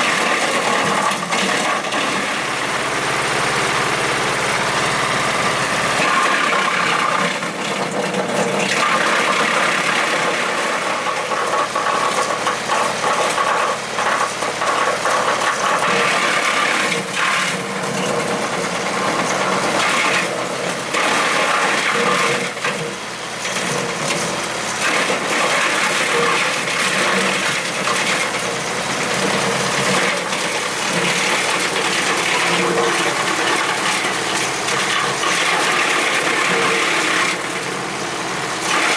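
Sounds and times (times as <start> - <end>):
wood chipper chipping wood: 0.0 - 38.9.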